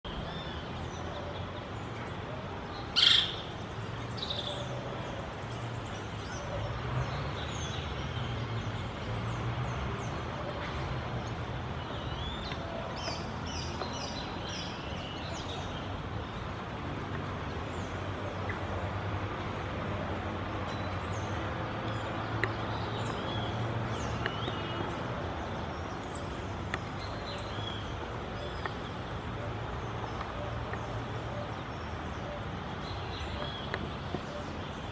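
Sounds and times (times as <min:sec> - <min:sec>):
birds calling and chirping: 0:00.1 - 0:34.9.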